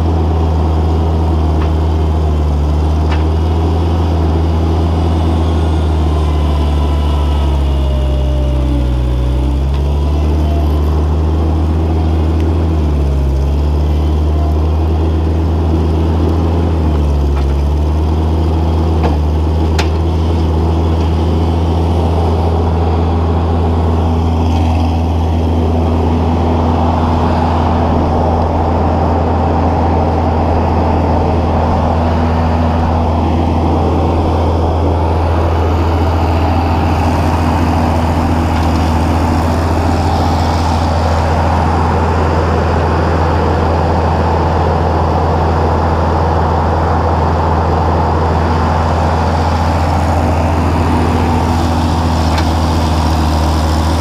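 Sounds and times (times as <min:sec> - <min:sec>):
loader engine droning: 0:00.0 - 0:54.0.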